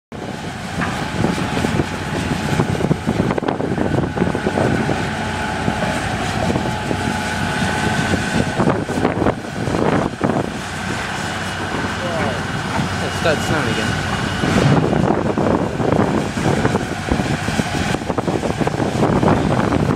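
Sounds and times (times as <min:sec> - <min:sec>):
excavator engine and hydraulics whine: 0:00.2 - 0:19.9.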